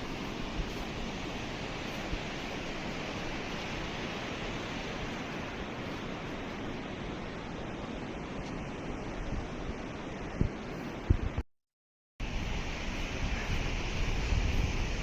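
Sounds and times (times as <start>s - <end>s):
mountain stream rushing: 0.0s - 11.4s, 12.2s - 15.0s.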